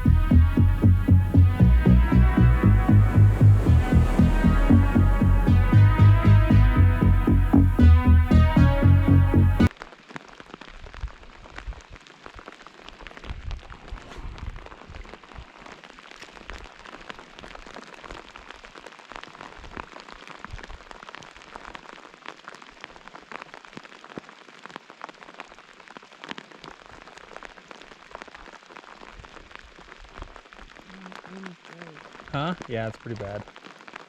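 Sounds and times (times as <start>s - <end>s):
rain falling: 0.0s - 34.0s
raindrop hits: 0.0s - 34.0s.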